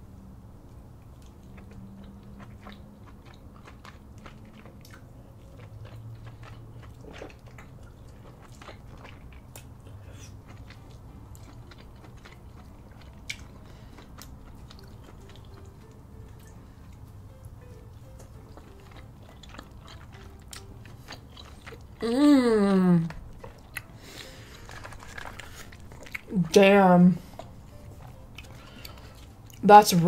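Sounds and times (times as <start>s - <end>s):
person chewing food: 1.0s - 26.5s, 27.2s - 29.6s.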